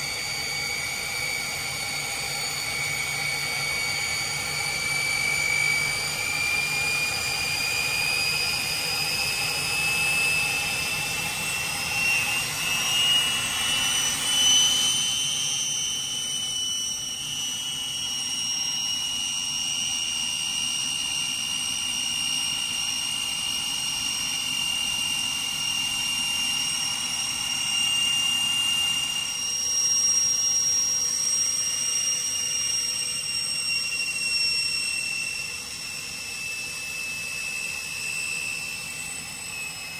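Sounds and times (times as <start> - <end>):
jet engine whine and rush: 0.0 - 39.9.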